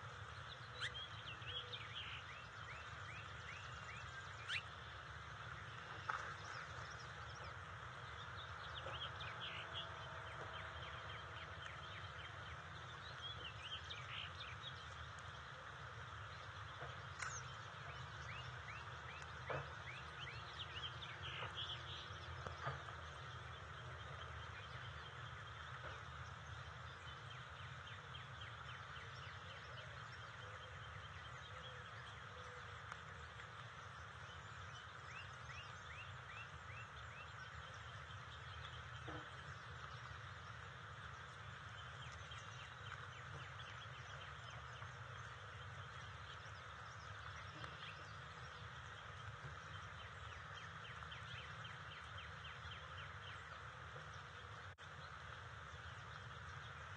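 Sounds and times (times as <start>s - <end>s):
birds calling with trills: 0.0s - 56.9s
steady hiss: 0.0s - 56.9s.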